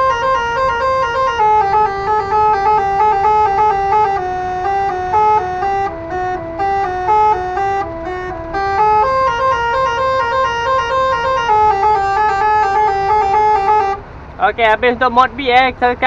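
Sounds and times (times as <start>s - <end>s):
air horn tune: 0.0s - 14.3s.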